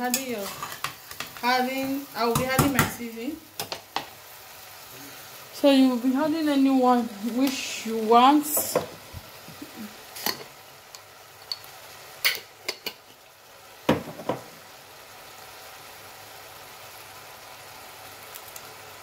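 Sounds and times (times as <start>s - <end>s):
pot simmering with low sizzle: 0.0s - 19.0s.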